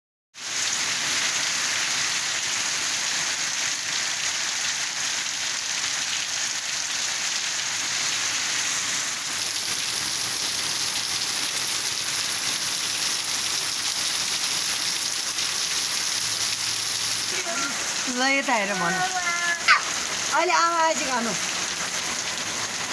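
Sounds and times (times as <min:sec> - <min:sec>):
steady rain falling: 0:00.4 - 0:22.9.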